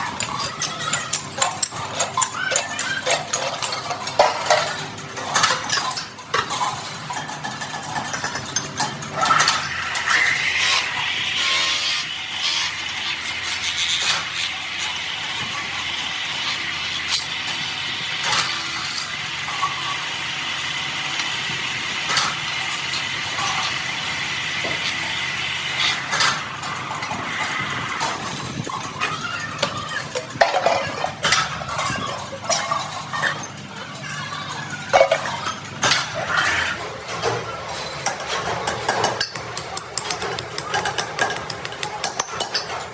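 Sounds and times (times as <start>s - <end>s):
workshop machinery running: 0.0s - 42.9s.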